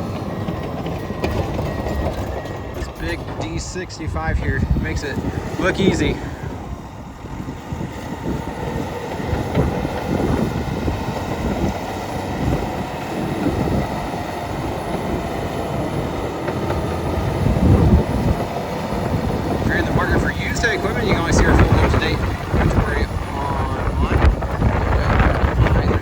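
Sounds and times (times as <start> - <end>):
bulldozer diesel engine under load: 0.0 - 26.0
bulldozer running gear rumble: 0.0 - 26.0.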